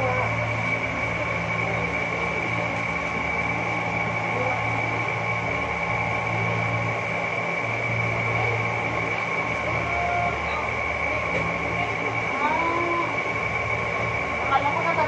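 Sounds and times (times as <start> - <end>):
mechanical hum with high whine: 0.0 - 15.0.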